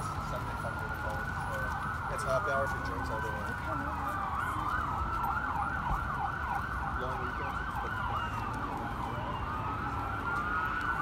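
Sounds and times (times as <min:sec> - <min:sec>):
siren wail: 0:00.0 - 0:11.0
siren yelp: 0:00.0 - 0:11.0.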